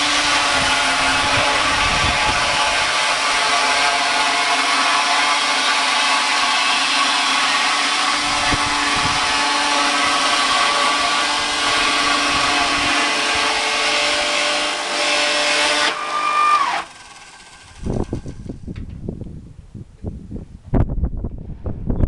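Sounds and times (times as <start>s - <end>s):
chainsaw mill cutting log: 0.0s - 18.6s.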